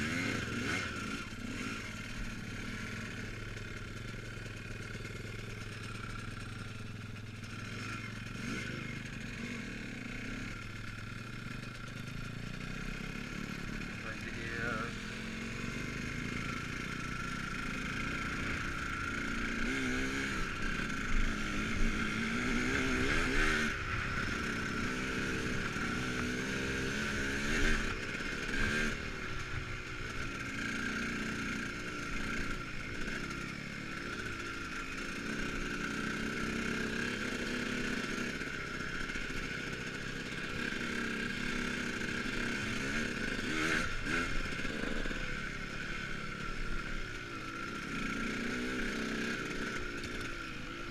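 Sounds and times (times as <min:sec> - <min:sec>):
dirt bike motor revving: 0:00.0 - 0:50.9.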